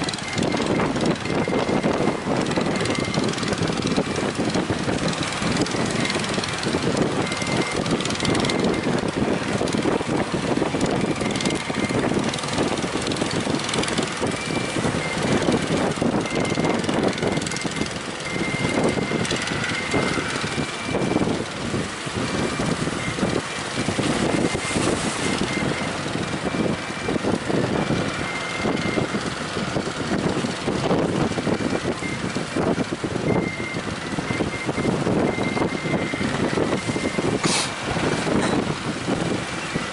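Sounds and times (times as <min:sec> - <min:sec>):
boat engine drone: 0:00.0 - 0:39.9
wind buffeting microphone: 0:00.0 - 0:39.9.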